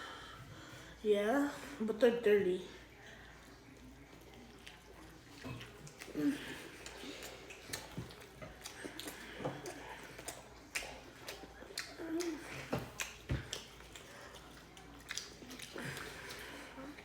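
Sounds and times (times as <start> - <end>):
faint murmur of voices: 0.0 - 17.0
people chewing: 2.8 - 17.0.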